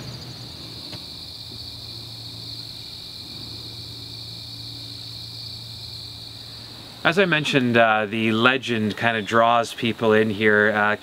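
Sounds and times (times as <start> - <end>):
crickets and insects chirping: 0.0 - 11.0
low steady hum: 0.0 - 11.0.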